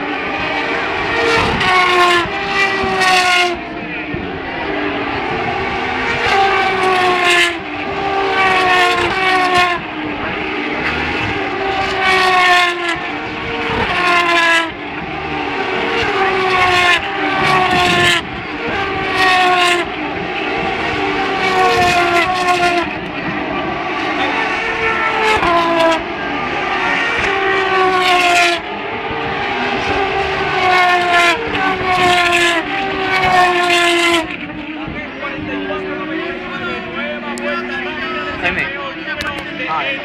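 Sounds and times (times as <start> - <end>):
race cars passing at high revs: 0.0 - 40.0
steady engine drone: 0.0 - 40.0.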